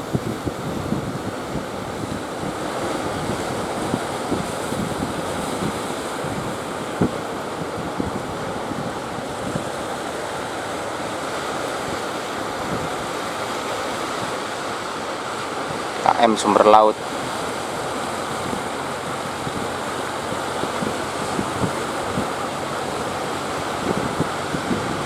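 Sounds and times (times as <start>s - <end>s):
sea surf washing: 0.0s - 25.0s
wind buffeting microphone: 0.0s - 25.0s.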